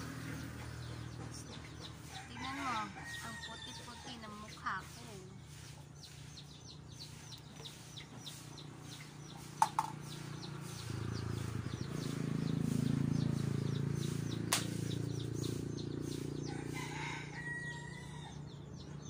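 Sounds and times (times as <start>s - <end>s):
rapid high chick chirping: 0.0s - 19.0s.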